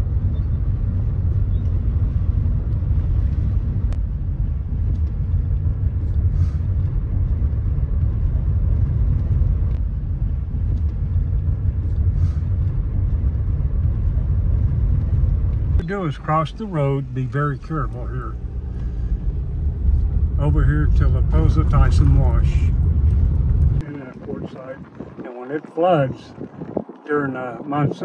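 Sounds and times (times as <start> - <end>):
car engine: 0.0 - 27.8
road noise inside car: 0.0 - 28.0.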